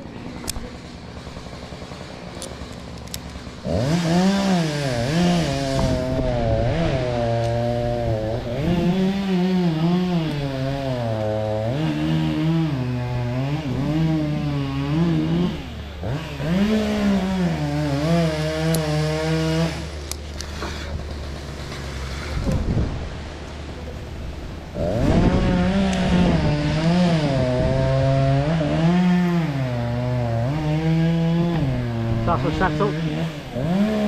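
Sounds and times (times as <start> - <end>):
chainsaw revving: 0.0 - 23.0, 23.8 - 34.0.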